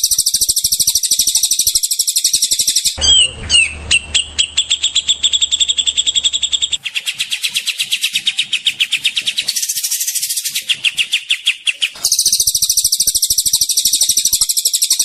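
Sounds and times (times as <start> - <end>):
songbird trilling: 0.0 - 15.0.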